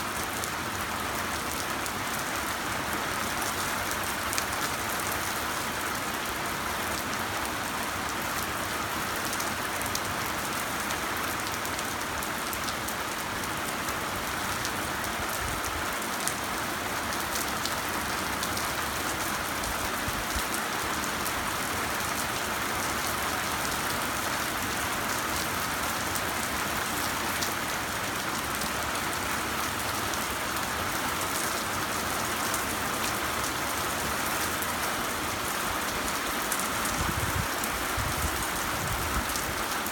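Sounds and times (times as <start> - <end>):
heavy rain pouring: 0.1 - 39.9.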